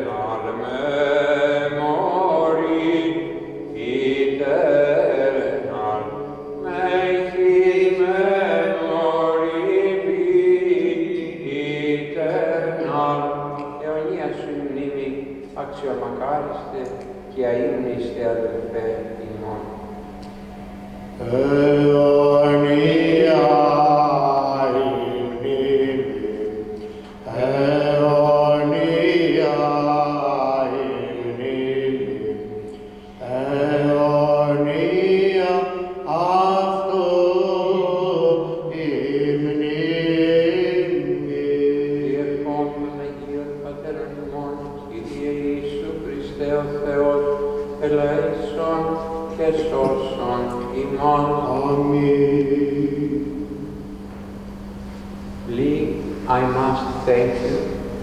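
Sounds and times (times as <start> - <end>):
person chanting long notes: 0.0 - 53.9.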